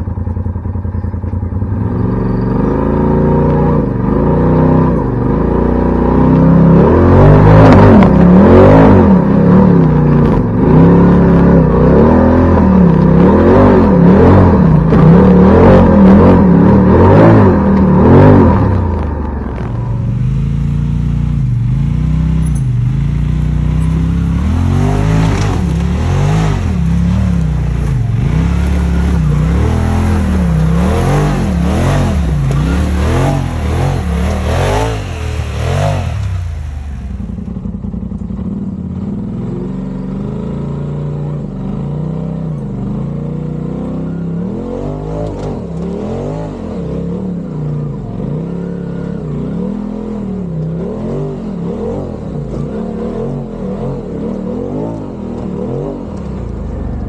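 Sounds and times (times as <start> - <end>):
utility vehicle engine revving: 0.0 - 57.0.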